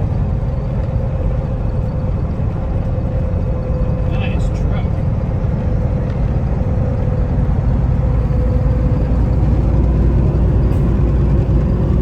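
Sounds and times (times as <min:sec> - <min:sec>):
road rumble: 0:00.0 - 0:12.0
truck engine drone: 0:00.0 - 0:12.0.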